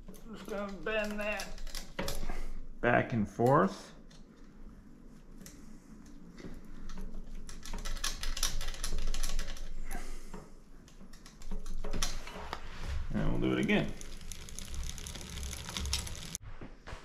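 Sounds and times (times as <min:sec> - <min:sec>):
bicycle chain clicking and rattling: 0:00.0 - 0:02.7, 0:05.4 - 0:16.4.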